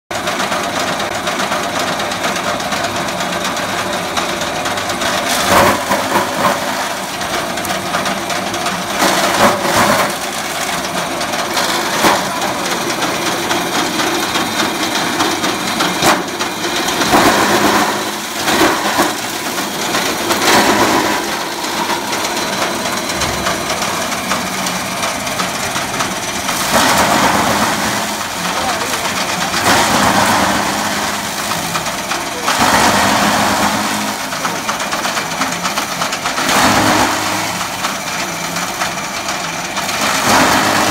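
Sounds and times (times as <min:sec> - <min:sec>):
electric chaff cutter running: 0:00.2 - 0:40.9.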